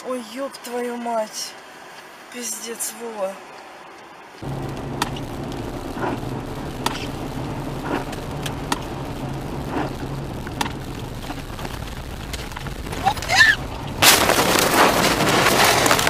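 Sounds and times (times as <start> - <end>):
car engine hum and tyre noise: 0.0 - 16.0.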